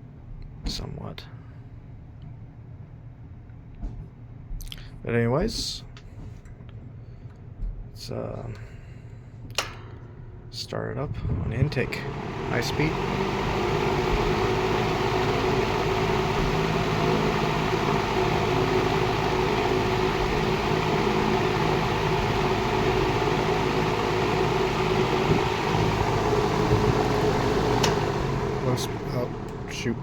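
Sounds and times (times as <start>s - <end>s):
box fan running: 5.3s - 30.0s.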